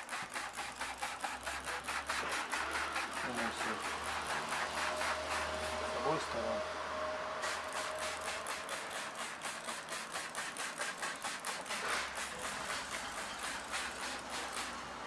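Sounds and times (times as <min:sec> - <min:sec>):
spray bottle pumped rapidly: 0:00.0 - 0:06.5, 0:07.3 - 0:15.0.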